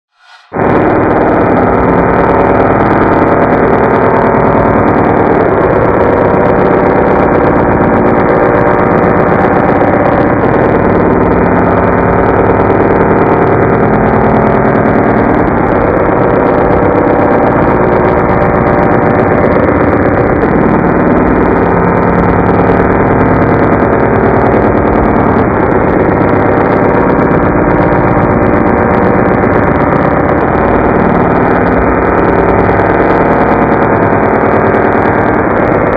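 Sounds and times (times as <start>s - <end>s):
vocoded voice buzzing drone: 0.2s - 35.9s.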